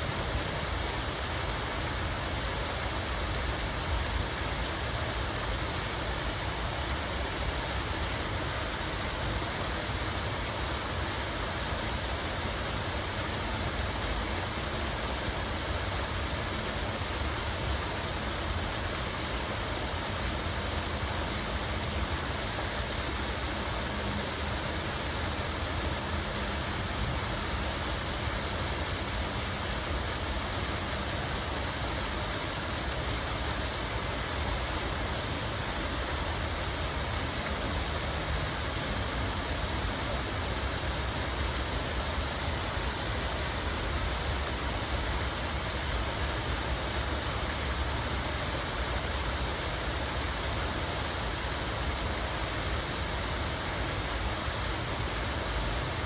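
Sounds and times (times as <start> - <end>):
water running steadily: 0.0 - 56.0.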